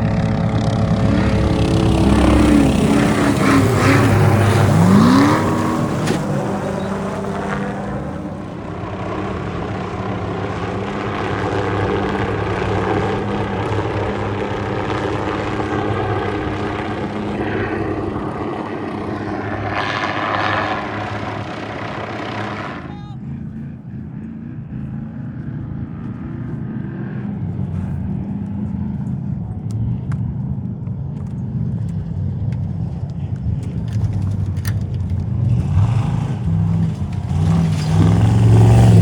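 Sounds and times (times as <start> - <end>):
engine revving and running: 0.0 - 30.2, 32.9 - 39.0.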